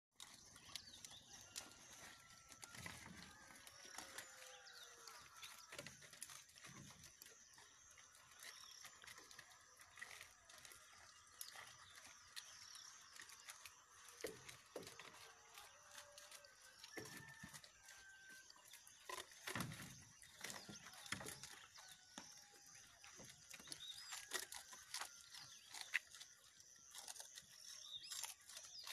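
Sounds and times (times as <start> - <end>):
goats crunching leaves: 0.2 - 28.9.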